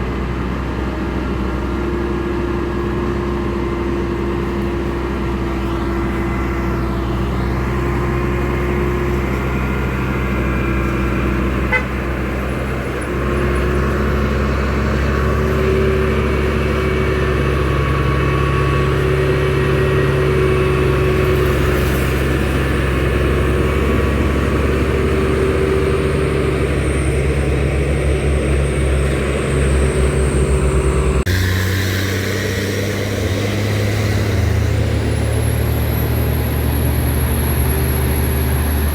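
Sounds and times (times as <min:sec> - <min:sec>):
heavy truck engines rumbling: 0:00.0 - 0:38.9.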